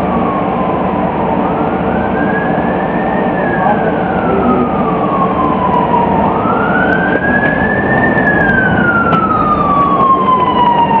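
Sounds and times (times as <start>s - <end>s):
bus drivetrain whine: 0.0s - 11.0s
bus engine running: 0.0s - 11.0s
road noise: 0.0s - 11.0s.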